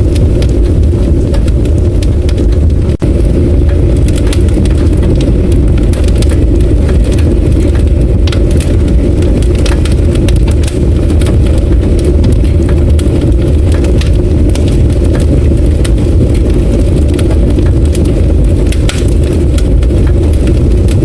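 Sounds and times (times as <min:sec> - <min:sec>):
loud low rumble: 0:00.0 - 0:21.0.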